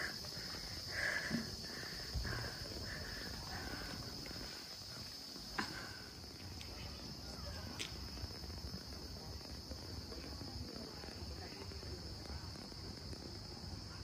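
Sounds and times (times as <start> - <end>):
high insect chorus: 0.0 - 14.0.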